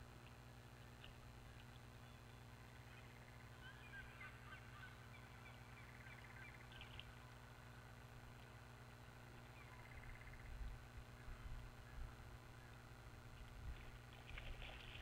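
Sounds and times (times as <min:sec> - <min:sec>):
steady low hum: 0:00.0 - 0:15.0
faint bird calls: 0:00.7 - 0:15.0.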